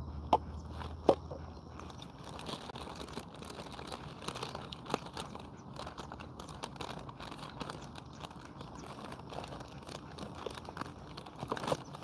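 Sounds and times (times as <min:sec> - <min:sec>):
dog panting: 0:00.0 - 0:12.0
crackling rustling noise: 0:00.7 - 0:12.0.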